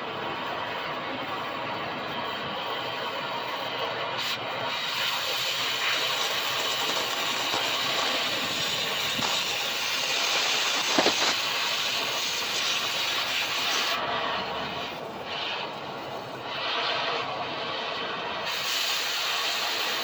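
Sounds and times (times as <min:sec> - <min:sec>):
loud steady hiss: 0:00.0 - 0:20.0.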